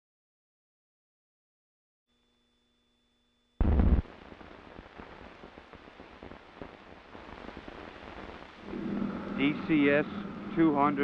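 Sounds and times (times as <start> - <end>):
tape hiss with crackle: 2.1 - 11.0.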